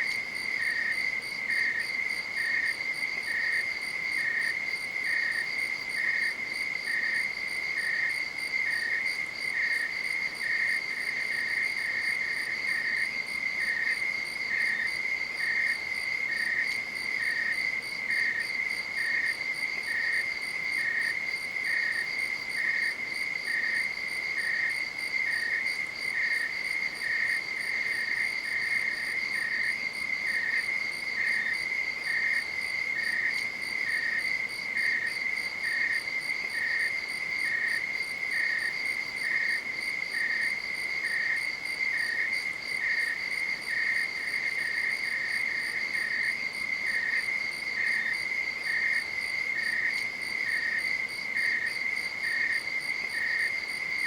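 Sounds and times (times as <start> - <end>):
lower cricket chirp: 0.0 - 54.0.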